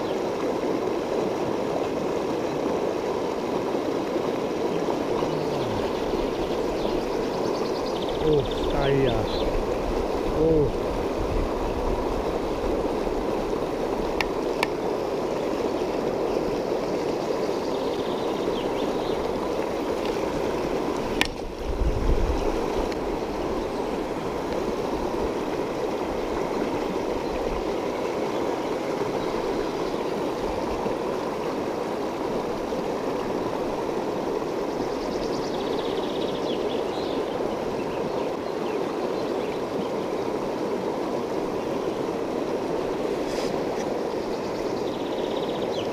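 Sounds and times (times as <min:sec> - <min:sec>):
river rapids rushing over stones: 0:00.0 - 0:34.8, 0:36.2 - 0:45.9.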